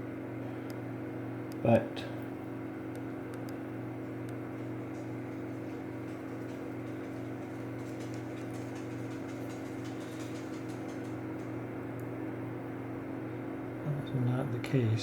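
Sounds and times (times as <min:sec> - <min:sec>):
low equipment hum: 0:00.0 - 0:15.0.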